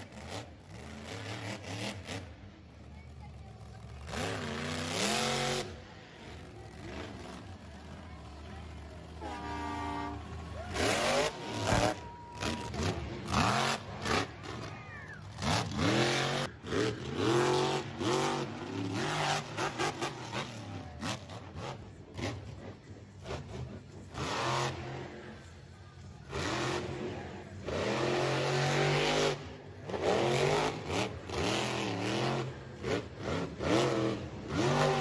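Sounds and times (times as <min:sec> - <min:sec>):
monster truck engines revving: 0:00.0 - 0:35.0.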